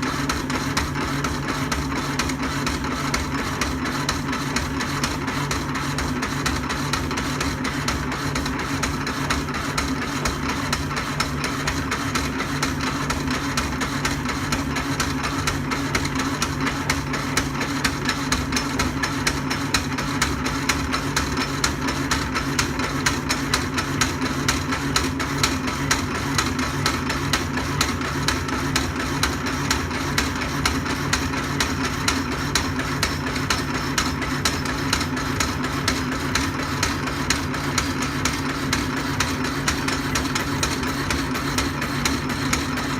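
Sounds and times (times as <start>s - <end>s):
hacksaw knocking on each stroke: 0.0s - 42.9s
power hacksaw cutting steel: 0.0s - 42.9s.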